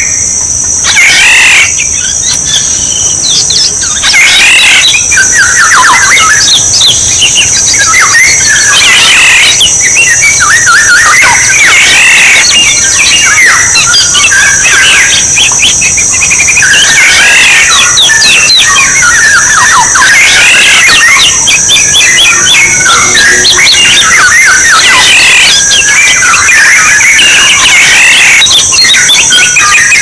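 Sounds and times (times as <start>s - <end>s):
oriole whistles and harsh calls: 0.0s - 30.0s
steady high hiss: 0.0s - 30.0s.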